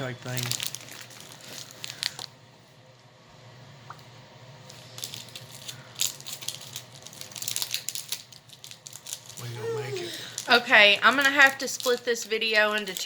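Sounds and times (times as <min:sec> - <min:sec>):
snack wrapper crinkling: 0:00.0 - 0:02.4, 0:04.6 - 0:13.0.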